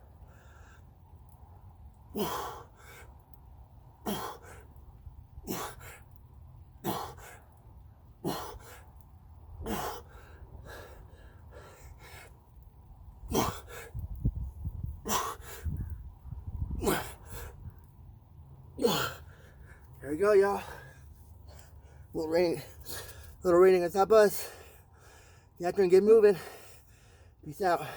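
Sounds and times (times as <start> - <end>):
steady low rumble: 0.0 - 27.9.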